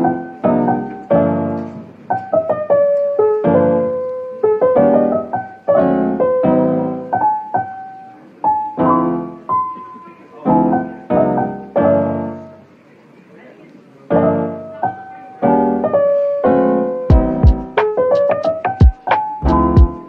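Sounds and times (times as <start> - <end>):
slow piano music: 0.0 - 12.8, 14.0 - 20.0.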